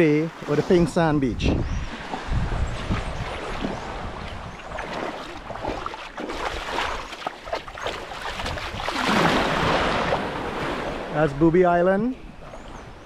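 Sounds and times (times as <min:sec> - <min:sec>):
water splashing against boat: 0:00.0 - 0:11.5
wind buffeting microphone: 0:00.7 - 0:13.0.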